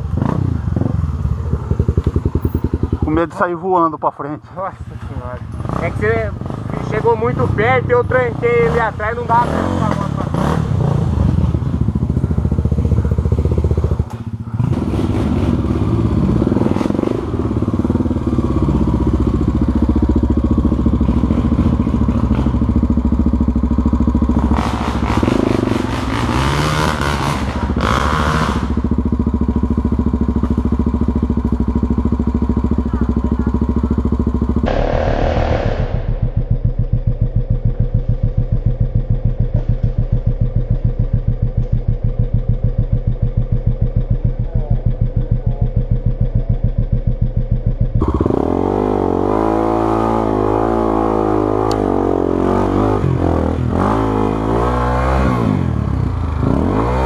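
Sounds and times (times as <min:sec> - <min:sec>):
engine idling: 0:00.0 - 0:14.9, 0:15.6 - 0:26.8, 0:27.6 - 0:49.5
motorcycle engine revving: 0:00.0 - 0:57.0.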